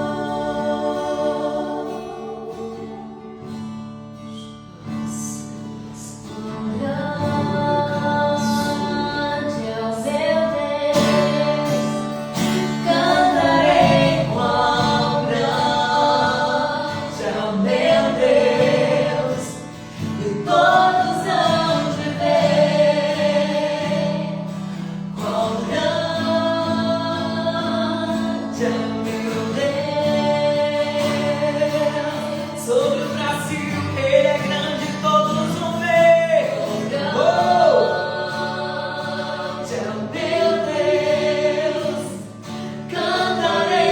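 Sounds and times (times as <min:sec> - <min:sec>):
voices singing gospel: 0:00.0 - 0:03.5, 0:06.0 - 0:43.9.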